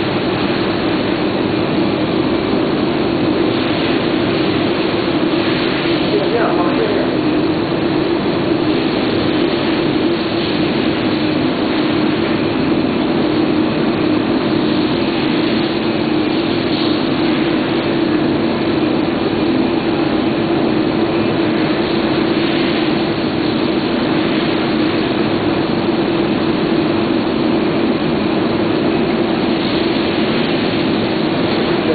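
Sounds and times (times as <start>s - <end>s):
machinery hiss: 0.0s - 31.9s
machinery hum: 0.0s - 31.9s.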